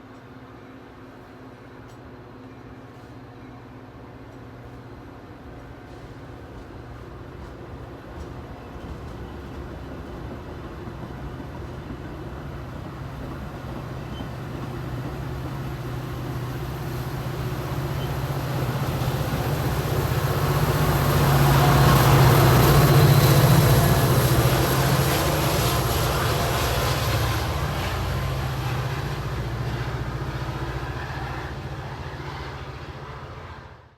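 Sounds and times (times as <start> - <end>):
train engine hum: 0.0 - 33.9
train wheels rumbling: 4.1 - 33.9.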